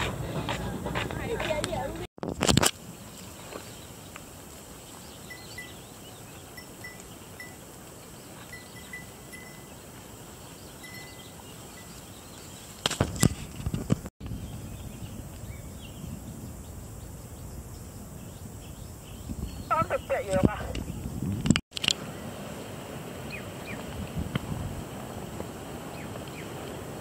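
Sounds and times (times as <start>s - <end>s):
outdoor noise bed: 0.0s - 27.0s.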